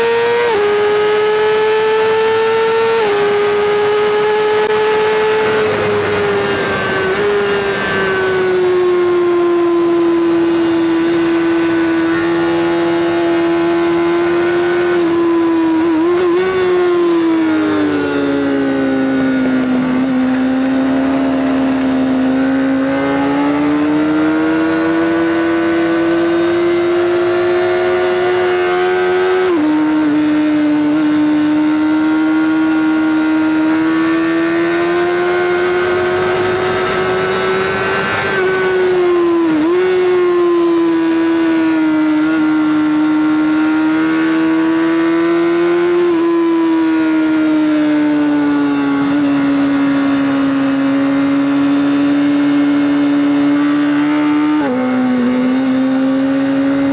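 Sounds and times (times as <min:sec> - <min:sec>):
motorcycle engine at high revs: 0:00.0 - 0:56.9.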